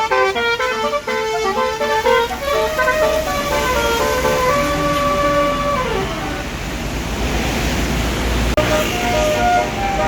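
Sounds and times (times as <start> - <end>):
multi-tone bus horn melody: 0.0 - 6.7, 8.6 - 10.0.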